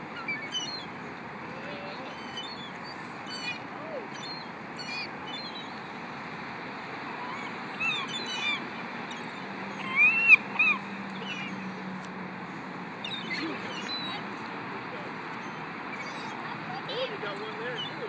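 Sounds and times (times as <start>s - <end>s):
seagulls calling: 0.0s - 18.0s.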